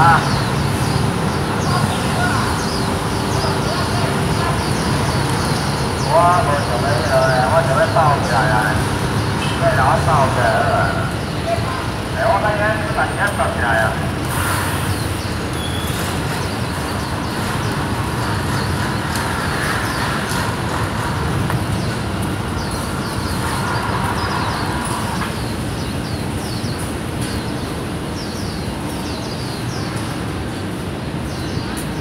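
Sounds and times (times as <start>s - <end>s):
birds chirping: 0.0s - 32.0s
traffic noise: 0.0s - 32.0s.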